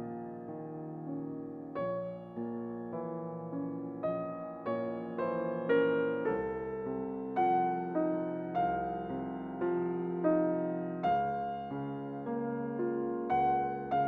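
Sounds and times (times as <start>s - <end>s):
soft electric piano melody: 0.0s - 14.0s.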